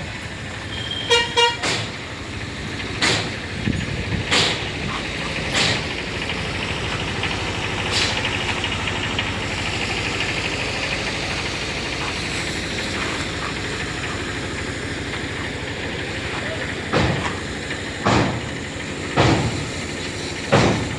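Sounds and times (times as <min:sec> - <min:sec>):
small truck engine idling: 0:00.0 - 0:20.9.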